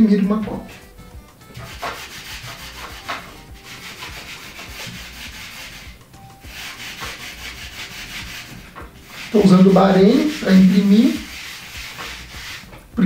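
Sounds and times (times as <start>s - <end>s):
baren rubbing on paper: 1.5s - 12.9s.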